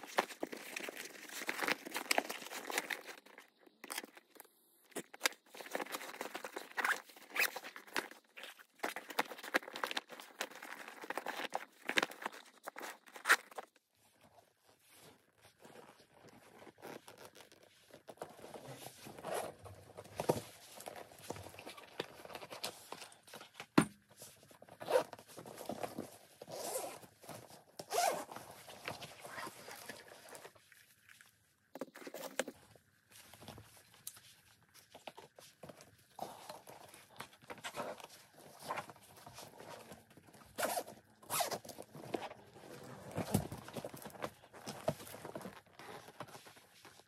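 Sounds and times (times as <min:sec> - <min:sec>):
rustling and scraping from handling: 0:00.0 - 0:47.0.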